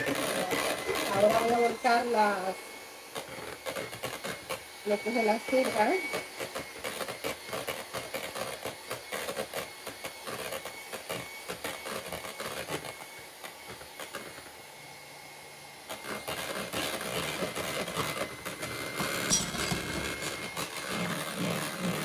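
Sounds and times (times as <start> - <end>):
electric hand mixer whining: 0.0 - 22.0.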